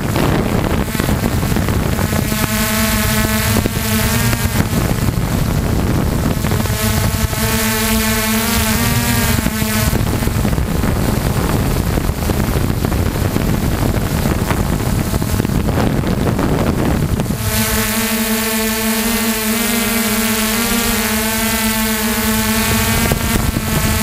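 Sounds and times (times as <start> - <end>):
motor and propeller whine: 0.0 - 24.0
wind rushing over microphone: 0.0 - 24.0.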